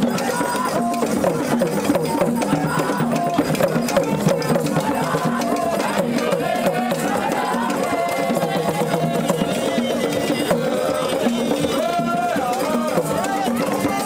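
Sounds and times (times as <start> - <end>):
drum and wood block beat: 0.0 - 14.0.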